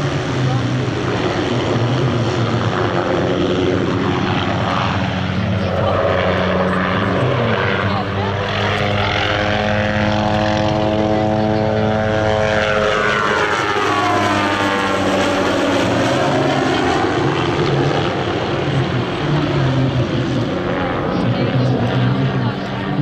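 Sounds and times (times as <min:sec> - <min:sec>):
helicopter rotor beat: 0:00.0 - 0:23.0
helicopter turbine whine: 0:00.0 - 0:23.0.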